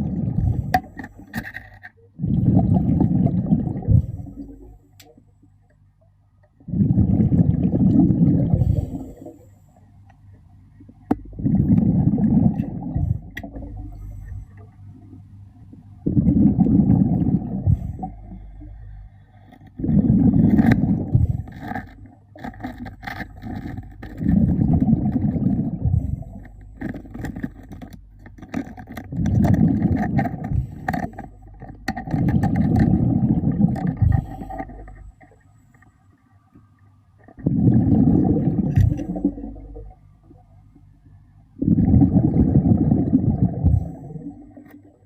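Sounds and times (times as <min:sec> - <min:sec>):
air bubbling from regulator: 0:00.0 - 0:05.6, 0:06.5 - 0:35.8, 0:37.2 - 0:41.0, 0:41.6 - 0:45.0.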